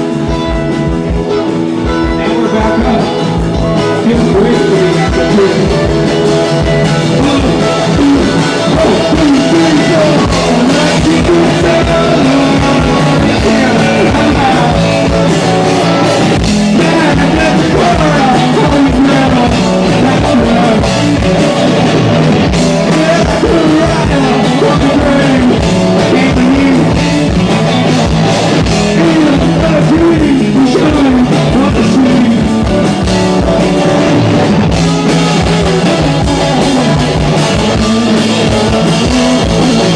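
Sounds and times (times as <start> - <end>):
bass guitar: 0.0 - 39.9
drum kit: 0.0 - 39.9
electric guitars: 0.0 - 39.9
person singing: 1.3 - 27.7, 28.6 - 34.0, 34.7 - 39.9.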